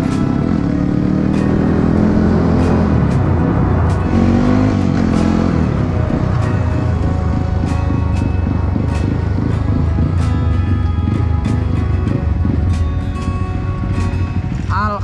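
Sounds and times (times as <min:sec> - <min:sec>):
background music with steady beat: 0:00.0 - 0:15.0
motorcycle engine revving: 0:00.0 - 0:15.0.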